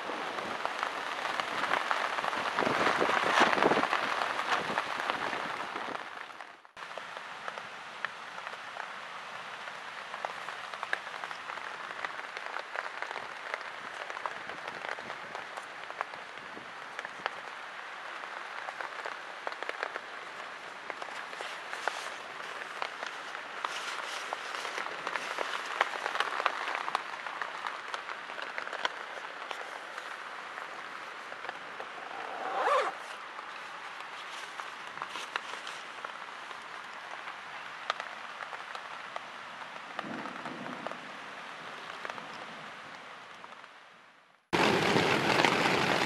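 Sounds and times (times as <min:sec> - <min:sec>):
raindrops ticking on surfaces: 0:00.0 - 0:46.0
steady rain falling: 0:00.0 - 0:46.0.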